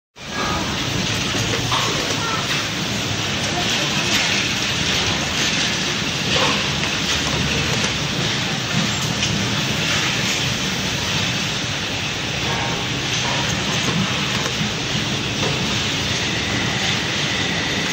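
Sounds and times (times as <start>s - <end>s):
factory machinery noise: 0.2s - 17.9s.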